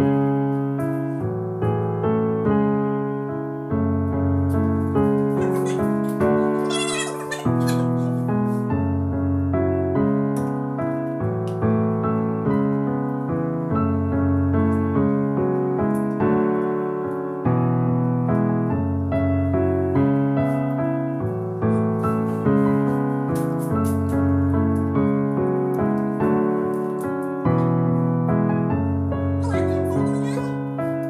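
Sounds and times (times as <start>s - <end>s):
slow piano music: 0.0s - 31.0s.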